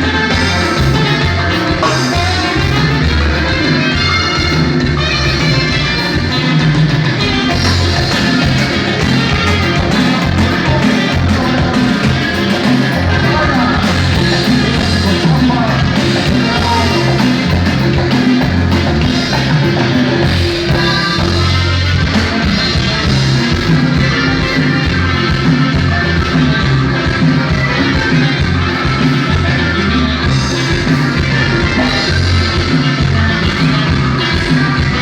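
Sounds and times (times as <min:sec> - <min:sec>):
band music with pulsing bass: 0:00.0 - 0:35.0.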